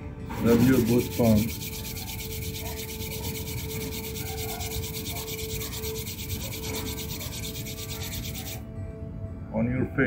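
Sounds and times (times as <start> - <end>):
palms rubbing together: 0.4 - 8.6.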